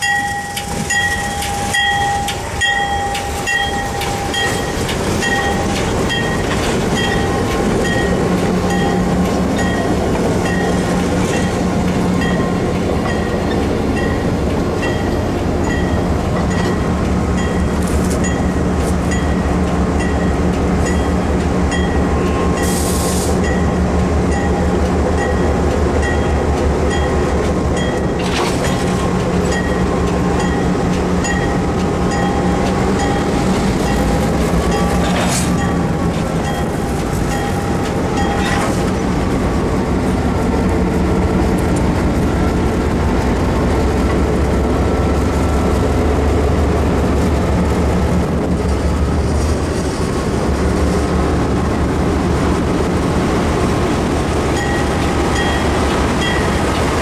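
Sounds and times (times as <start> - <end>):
wheels rumbling over rails: 0.0 - 57.0.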